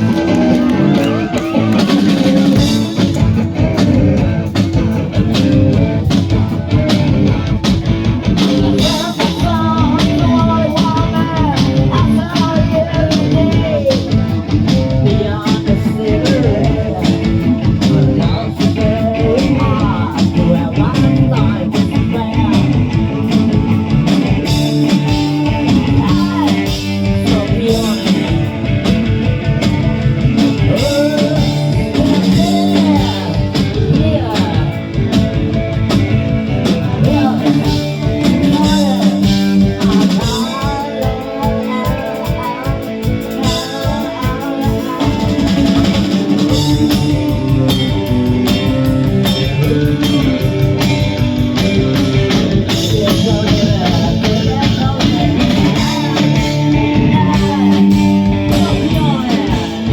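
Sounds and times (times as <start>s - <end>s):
drum kit: 0.0s - 59.9s
electric guitars: 0.0s - 59.9s
person singing: 0.0s - 59.9s.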